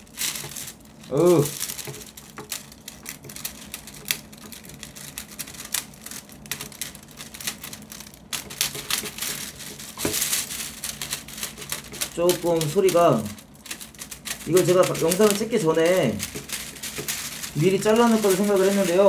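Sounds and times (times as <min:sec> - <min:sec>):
plastic film rustling and crackling: 0:00.0 - 0:19.0.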